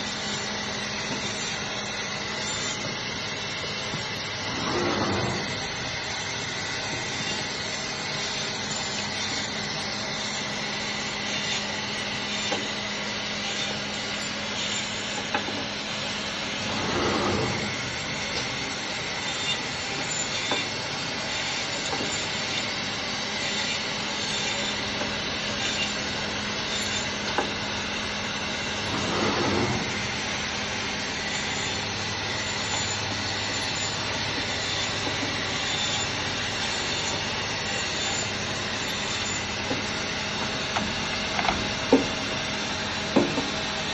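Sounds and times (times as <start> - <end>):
band saw cutting meat: 0.0 - 43.9.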